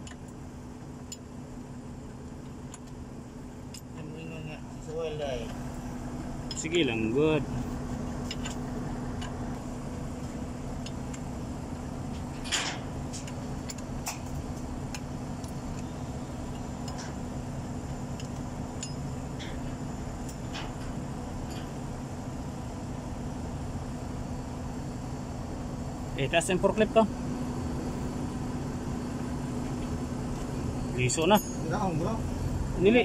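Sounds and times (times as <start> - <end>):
engine idling hum: 0.0 - 33.0.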